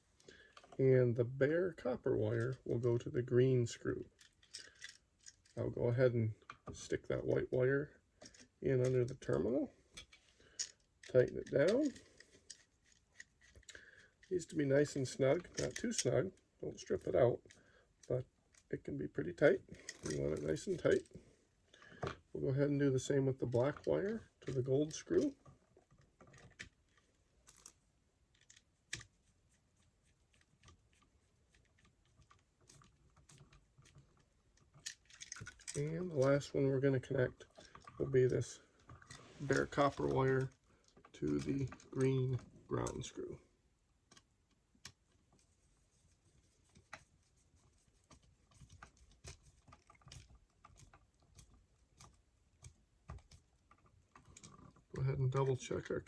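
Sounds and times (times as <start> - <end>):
wire clicking and scraping: 4.1 - 5.7, 8.2 - 18.8, 19.4 - 22.2, 23.4 - 43.4, 44.0 - 55.6.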